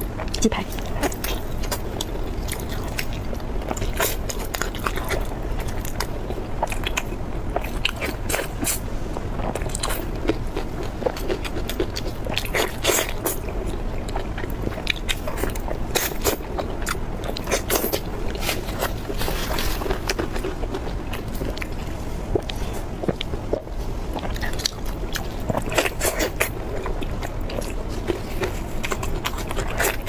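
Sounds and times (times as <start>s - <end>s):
chewing crispy fried food: 0.0s - 30.0s.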